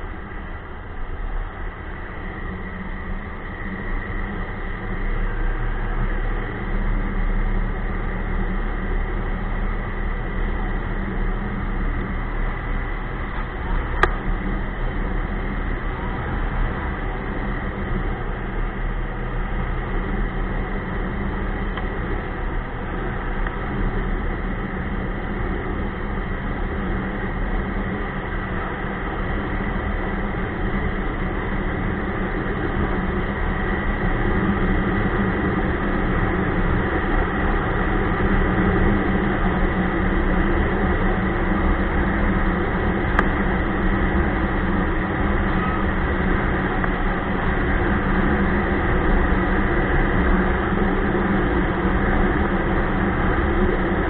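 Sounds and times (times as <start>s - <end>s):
snowmobile engine drone: 0.0s - 54.0s.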